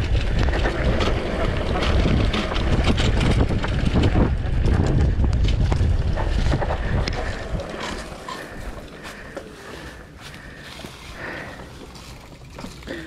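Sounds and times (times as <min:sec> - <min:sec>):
wind buffeting microphone: 0:00.0 - 0:12.1
mountain bike rattling on dirt trail: 0:00.0 - 0:13.0.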